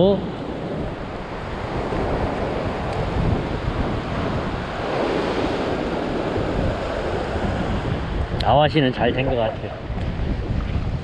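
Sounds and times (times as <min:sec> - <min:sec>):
sea waves washing over rock: 0:00.0 - 0:11.0
wind on microphone: 0:00.0 - 0:11.0.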